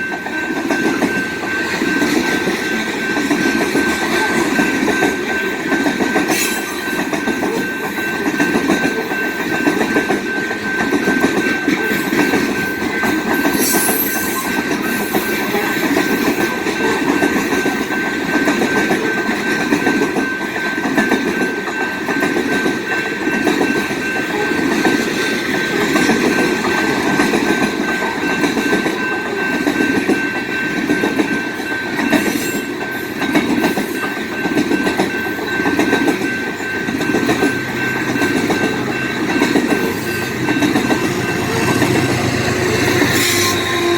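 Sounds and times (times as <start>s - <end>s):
high-pitched ring: 0.0s - 19.6s, 21.4s - 43.9s.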